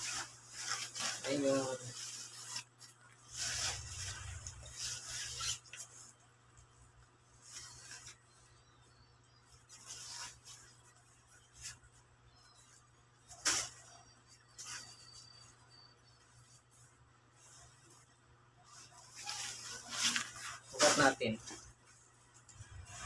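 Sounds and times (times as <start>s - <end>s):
jacket fabric rustling and swishing: 0.0s - 23.0s.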